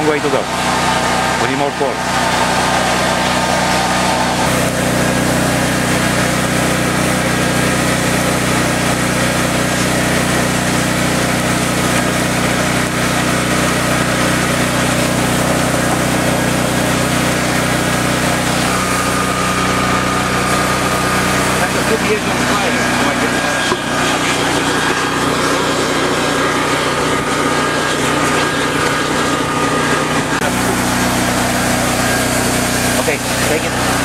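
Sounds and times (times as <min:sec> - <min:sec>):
forge fire burning: 0:00.0 - 0:34.0
small engine running: 0:00.0 - 0:34.0.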